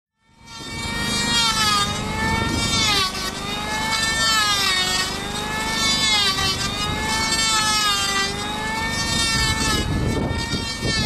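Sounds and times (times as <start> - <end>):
power tool motor whining: 0.2 - 11.0.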